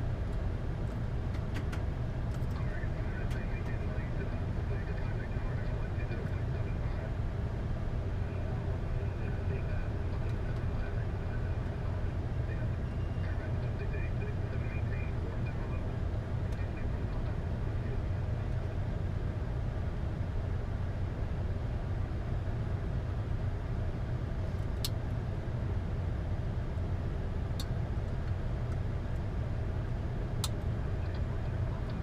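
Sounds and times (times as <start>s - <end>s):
aircraft cockpit rumble: 0.0s - 32.0s.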